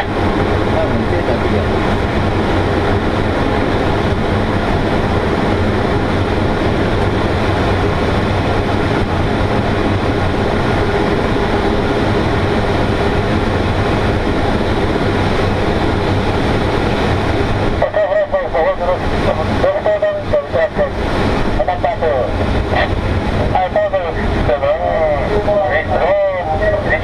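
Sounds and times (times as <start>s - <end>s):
airflow rushing past glider canopy: 0.0s - 27.0s.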